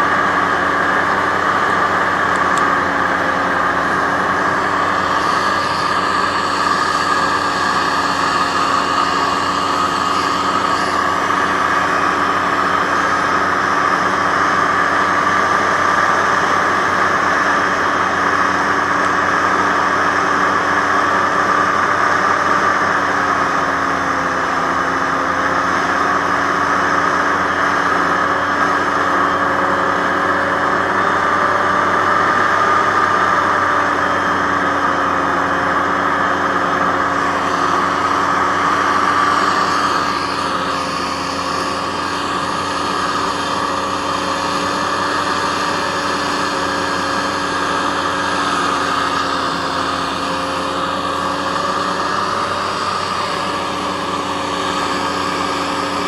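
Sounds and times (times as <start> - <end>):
hovercraft engine and fan: 0.0 - 56.0.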